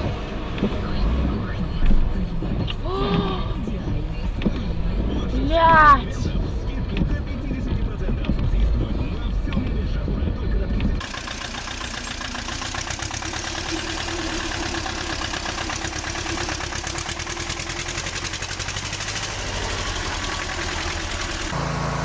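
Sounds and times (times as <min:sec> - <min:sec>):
tractor engine chugging: 0:03.6 - 0:22.0.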